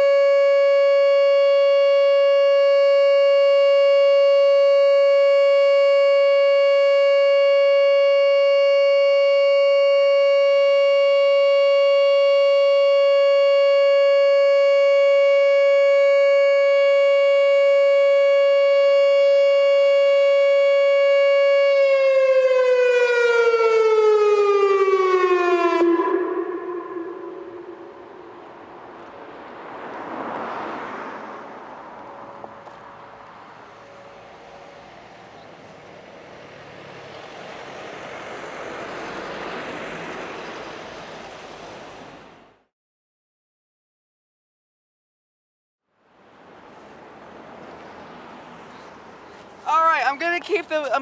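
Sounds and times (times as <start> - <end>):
warning siren steady tone: 0.0 - 42.7.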